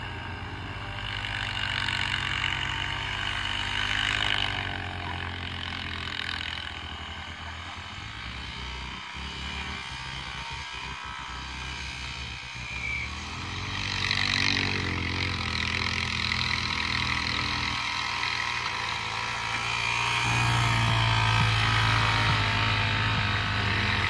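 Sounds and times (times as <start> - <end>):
distant atv engines: 0.0 - 24.0.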